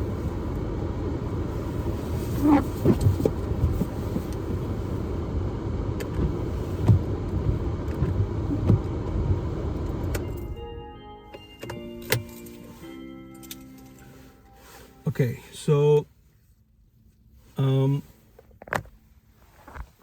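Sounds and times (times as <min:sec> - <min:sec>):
car engine idling: 0:00.0 - 0:19.8.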